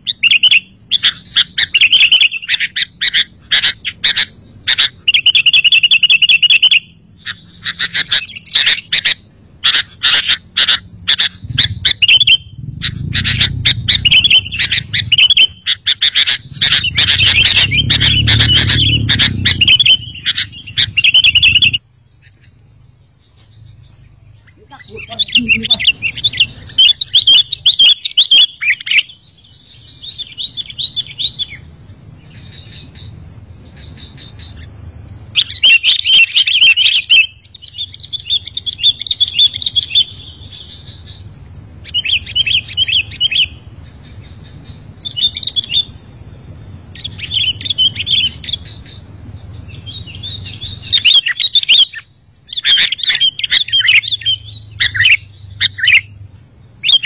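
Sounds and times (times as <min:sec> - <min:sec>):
bird chirping: 0:00.0 - 0:57.0
low steady rumble: 0:00.0 - 0:57.0.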